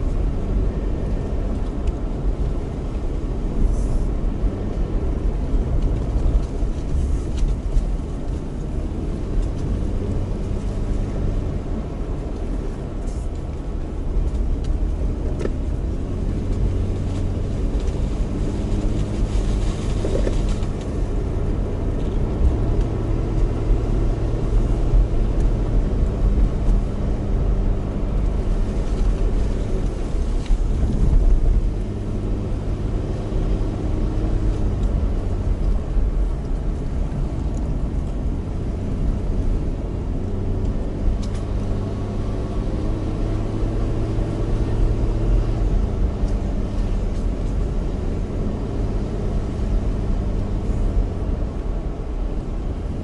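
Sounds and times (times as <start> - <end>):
car engine and tyre hum: 0.0 - 53.0
faint ticks from road: 0.0 - 53.0.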